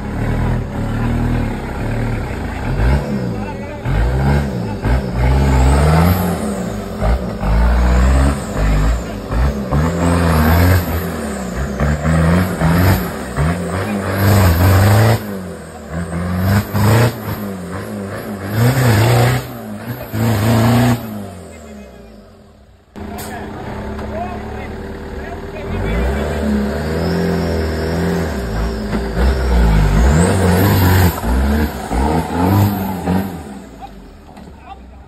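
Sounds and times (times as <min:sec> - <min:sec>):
off-road engine revving hard: 0:00.0 - 0:34.5.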